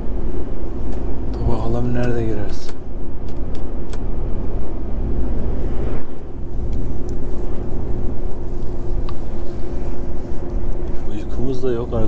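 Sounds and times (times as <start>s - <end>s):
road noise: 0.0s - 12.0s
truck engine rumble from cab: 0.0s - 12.0s.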